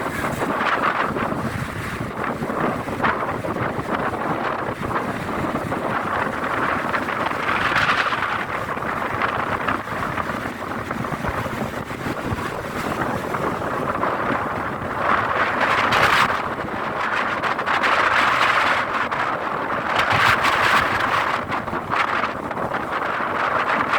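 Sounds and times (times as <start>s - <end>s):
rough sea water: 0.0s - 23.9s
wind buffeting microphone: 0.0s - 23.9s.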